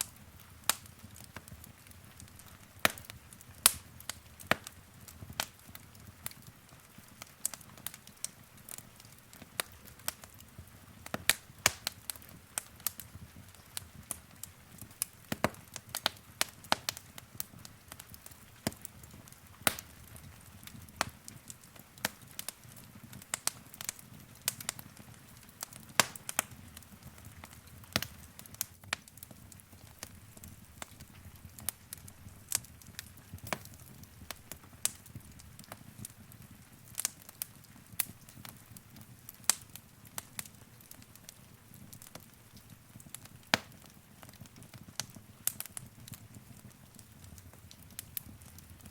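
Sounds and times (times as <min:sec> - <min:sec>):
low rumble of flame: 0:00.0 - 0:48.9
wood fire crackling: 0:00.0 - 0:48.9.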